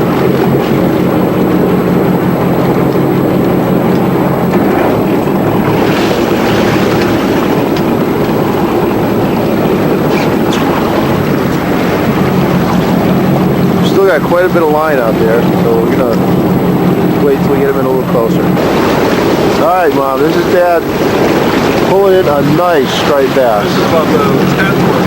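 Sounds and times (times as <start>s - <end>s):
boat engine droning: 0.0s - 25.0s
water noise: 0.0s - 25.0s
wind: 0.0s - 25.0s.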